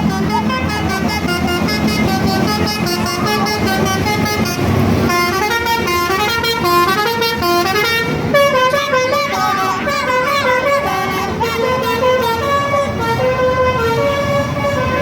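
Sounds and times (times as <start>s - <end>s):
musical bus air horn tune: 0.0s - 15.0s.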